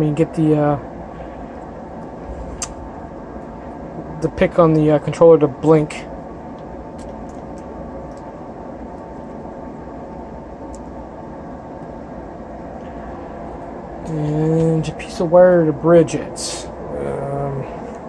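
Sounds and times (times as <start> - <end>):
droning background noise: 0.0 - 18.0.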